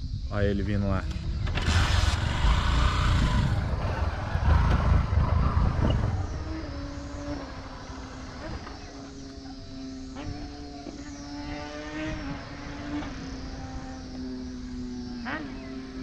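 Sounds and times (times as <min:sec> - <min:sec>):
motorcycle passing at speed: 0:01.3 - 0:16.0.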